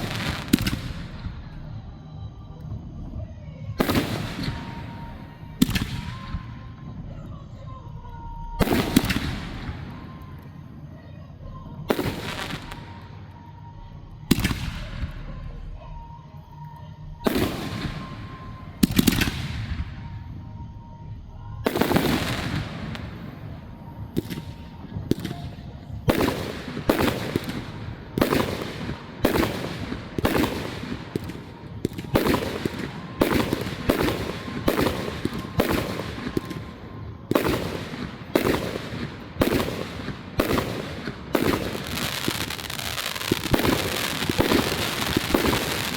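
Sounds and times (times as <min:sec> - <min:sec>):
crackling firework tails: 0:00.0 - 0:45.9.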